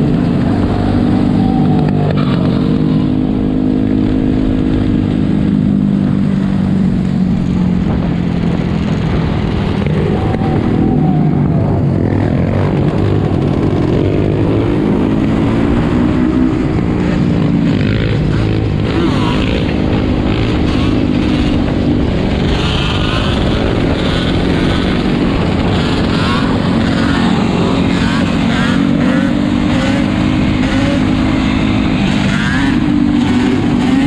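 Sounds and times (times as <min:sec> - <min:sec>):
atv and motorbike engines revving: 0:00.0 - 0:34.0.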